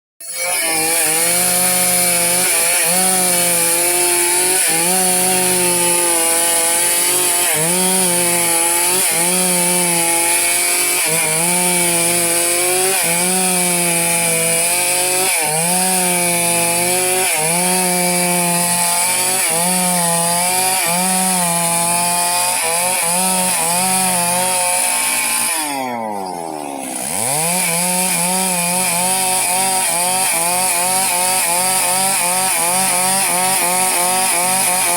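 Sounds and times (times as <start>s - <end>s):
chainsaw cutting timber: 0.2s - 34.9s.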